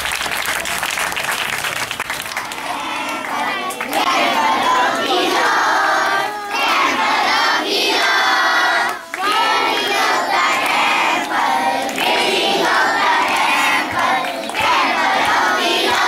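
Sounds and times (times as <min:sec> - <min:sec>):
children singing in unison: 0:02.4 - 0:16.0.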